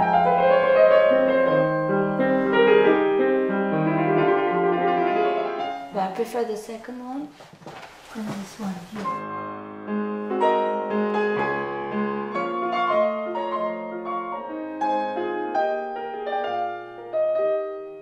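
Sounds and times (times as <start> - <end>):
slow piano chords and melody: 0.0 - 6.0, 8.9 - 18.0.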